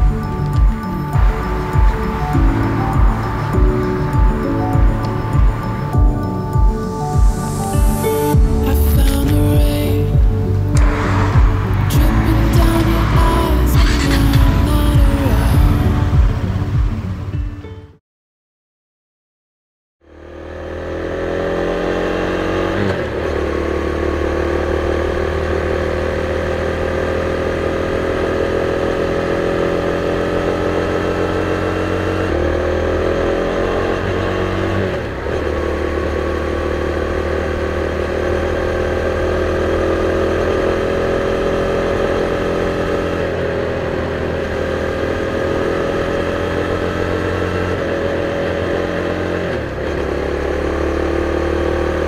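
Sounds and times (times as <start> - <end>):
motorcycle engine shifting gears: 0.0 - 17.2, 20.1 - 52.0.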